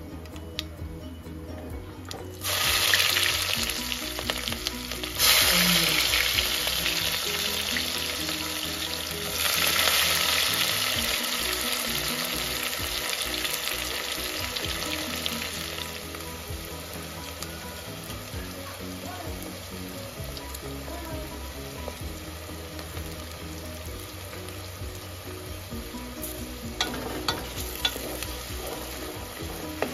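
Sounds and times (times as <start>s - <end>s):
oil sizzling: 2.1s - 29.9s.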